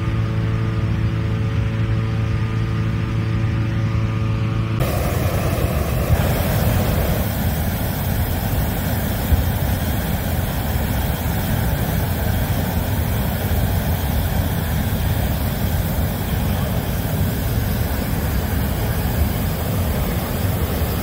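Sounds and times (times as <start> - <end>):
fan engine running: 0.0 - 21.0.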